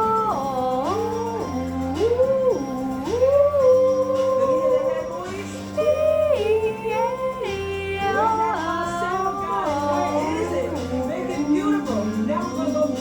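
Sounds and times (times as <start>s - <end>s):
high voice singing: 0.0s - 13.0s.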